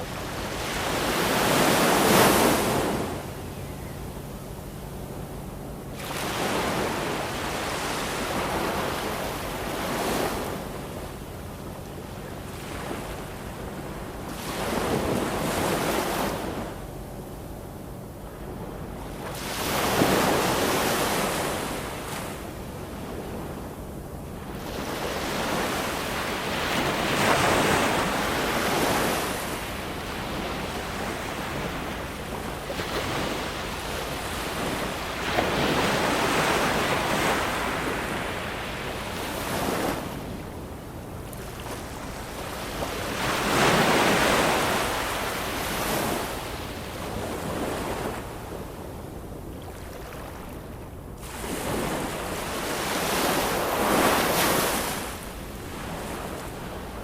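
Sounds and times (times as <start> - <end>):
ocean waves breaking: 0.0 - 3.6, 4.3 - 57.0.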